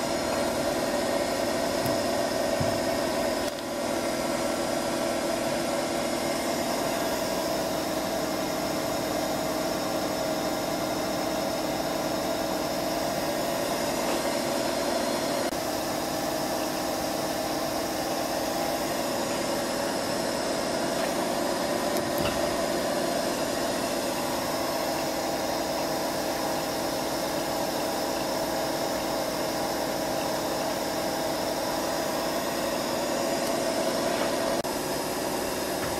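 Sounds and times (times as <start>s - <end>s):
milling machine humming: 0.0s - 35.9s.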